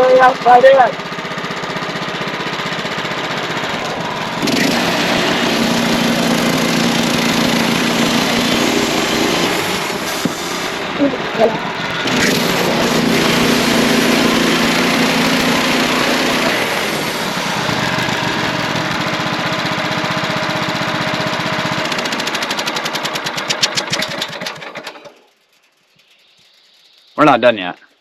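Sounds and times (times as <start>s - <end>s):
bandsaw mill sawing a log: 1.1s - 25.0s.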